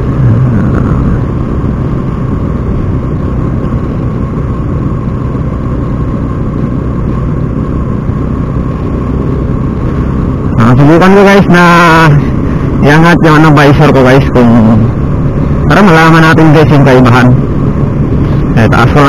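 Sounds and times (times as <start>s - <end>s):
motorcycle engine drone: 0.0s - 19.0s
muffled wind: 0.0s - 19.0s
road rumble: 0.0s - 19.0s.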